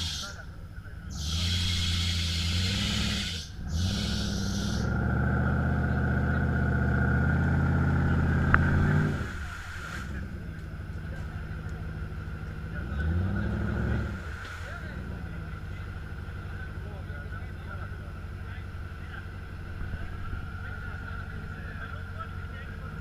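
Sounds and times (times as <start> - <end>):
engine revving under load: 0.0 - 23.0.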